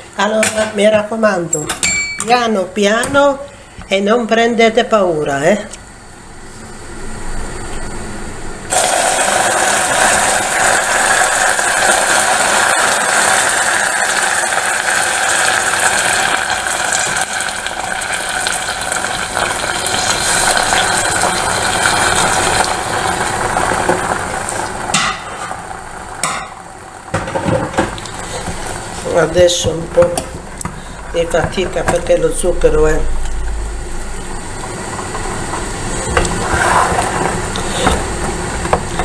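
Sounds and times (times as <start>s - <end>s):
hot sugar sizzling and hissing: 5.9s - 39.0s.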